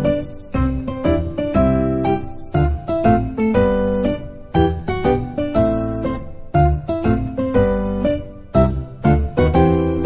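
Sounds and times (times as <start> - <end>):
music of struck notes and chords: 0.0 - 10.0.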